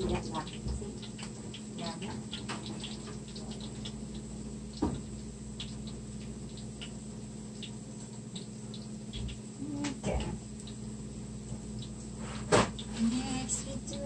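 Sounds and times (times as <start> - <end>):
oil crackling and popping: 0.0 - 14.0
steady low hum: 0.0 - 14.0.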